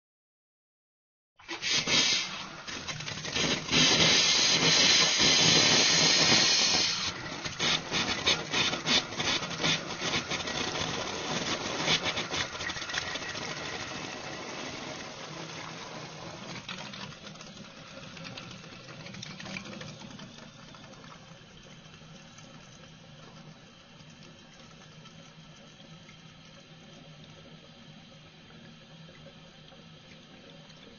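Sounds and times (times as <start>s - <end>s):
faucet hissing and sputtering: 1.4s - 27.9s.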